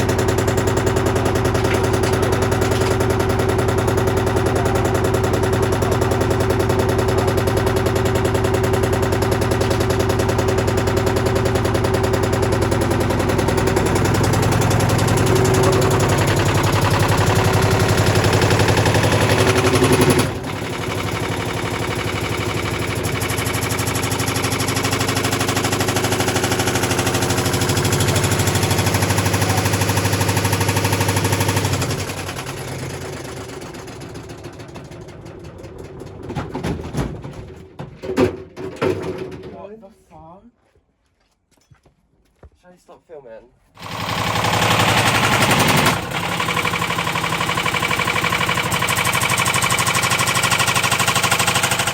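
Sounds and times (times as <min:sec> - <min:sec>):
washing machine spin drone: 0:00.0 - 0:36.8, 0:43.8 - 0:51.9
motor banging in drum: 0:00.0 - 0:39.1, 0:43.8 - 0:51.9.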